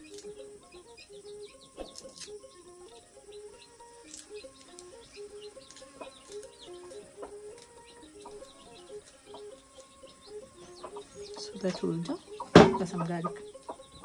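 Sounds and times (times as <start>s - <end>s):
chickens clucking: 0.0s - 14.0s
chicks peeping: 0.0s - 14.0s.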